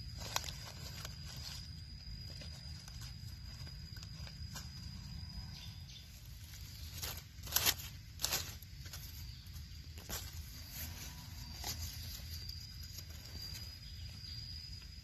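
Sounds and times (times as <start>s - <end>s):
dry leaves rustling and crackling: 0.0s - 5.4s, 6.1s - 14.2s.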